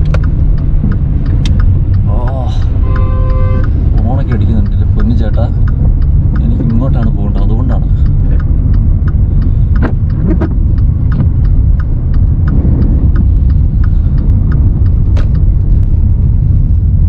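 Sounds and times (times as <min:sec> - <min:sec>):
engine and tyres rumbling on snow: 0:00.0 - 0:17.0
turn signal ticking: 0:00.0 - 0:17.0.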